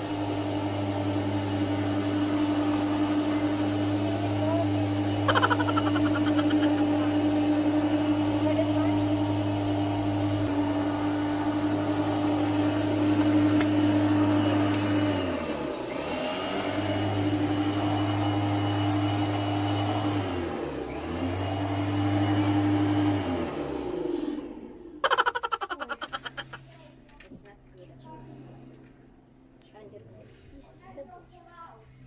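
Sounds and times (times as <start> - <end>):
electric lawnmower humming: 0.0 - 26.7.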